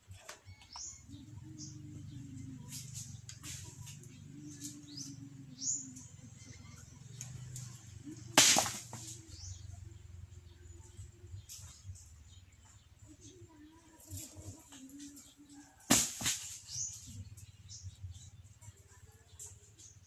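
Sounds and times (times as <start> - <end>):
birds chirping: 0.0 - 20.0
steady low hum: 0.8 - 20.0.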